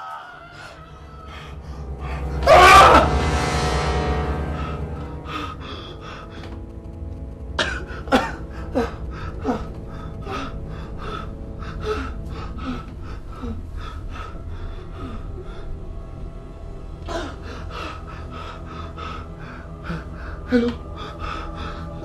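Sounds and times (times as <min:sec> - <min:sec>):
low steady drone: 0:00.3 - 0:22.0.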